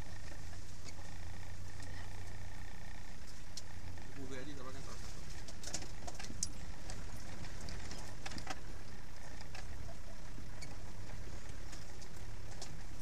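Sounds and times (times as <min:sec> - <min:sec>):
engine low drone: 0:00.0 - 0:13.0.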